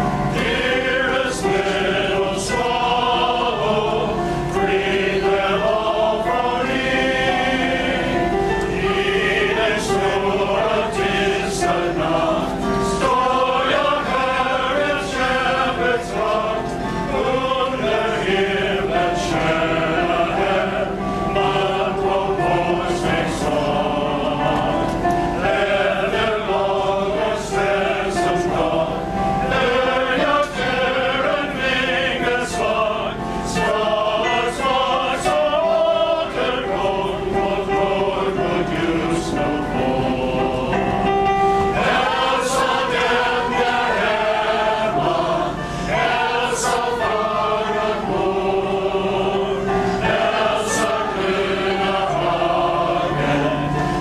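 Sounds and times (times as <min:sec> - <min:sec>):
male chorus singing in harmony: 0:00.0 - 0:54.0.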